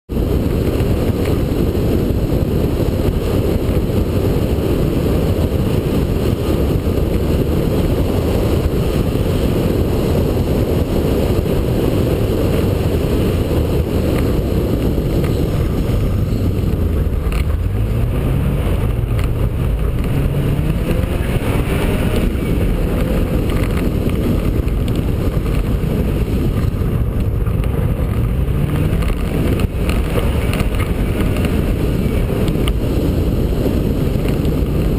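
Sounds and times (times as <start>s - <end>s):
rally car engine revving: 0.1s - 34.9s.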